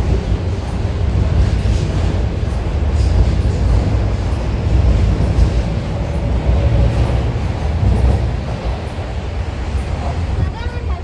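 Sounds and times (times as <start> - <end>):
train passing rumble: 0.0 - 11.0.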